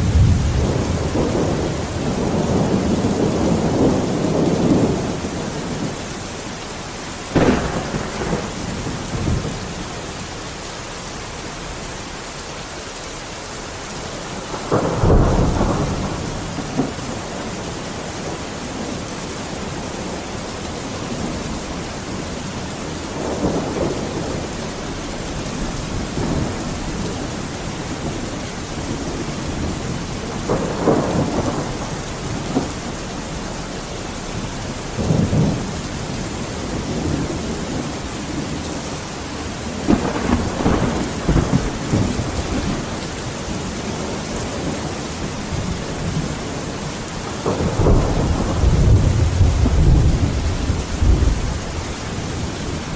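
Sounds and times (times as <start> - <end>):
thunder rolling: 0.0 - 6.0, 7.3 - 10.2, 14.2 - 52.9
heavy rain: 0.0 - 52.9.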